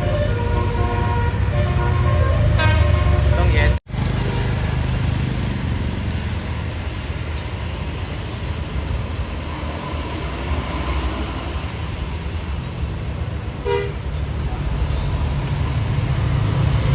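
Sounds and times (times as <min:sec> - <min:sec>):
bus diesel engine rumbling: 0:00.0 - 0:16.9.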